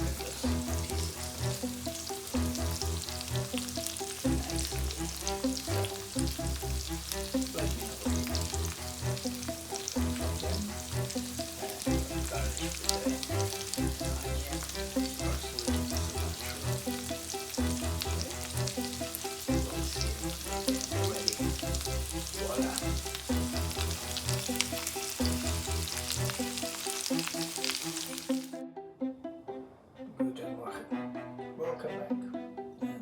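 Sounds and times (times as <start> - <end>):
chicken sizzling in a pan: 0.0 - 28.5
background music: 0.0 - 33.0.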